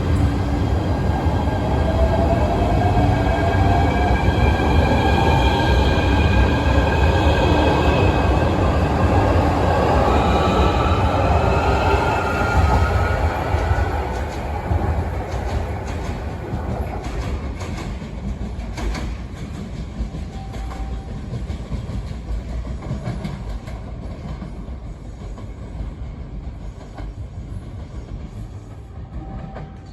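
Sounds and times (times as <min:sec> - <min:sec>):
train rumble: 0:00.0 - 0:29.9.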